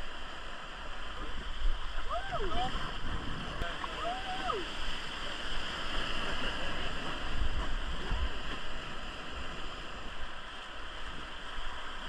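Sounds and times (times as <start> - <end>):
rushing river rapids: 0.0 - 12.0.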